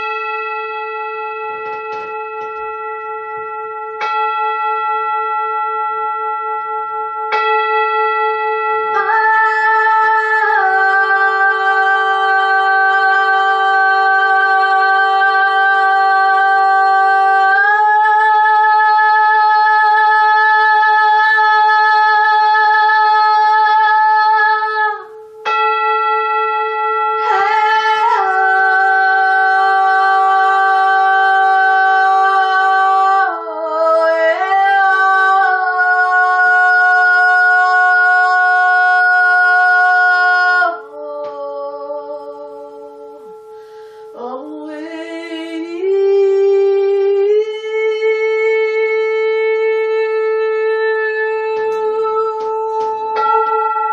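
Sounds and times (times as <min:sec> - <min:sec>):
woman singing wordless notes: 0:00.0 - 0:04.1, 0:08.8 - 0:25.7, 0:27.2 - 0:53.9.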